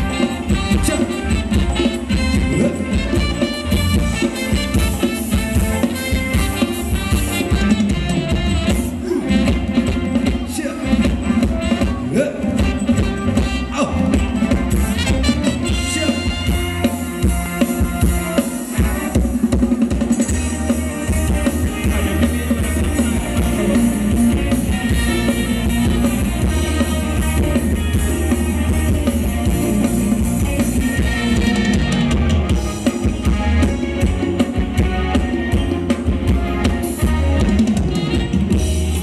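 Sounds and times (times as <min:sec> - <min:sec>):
drum kit beat: 0:00.0 - 0:39.0
live band playing dance song: 0:00.0 - 0:39.0.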